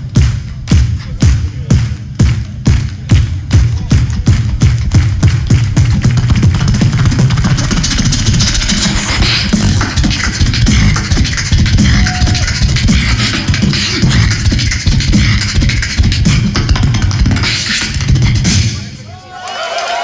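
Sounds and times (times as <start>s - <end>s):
beatboxing through a microphone: 0.0s - 19.1s.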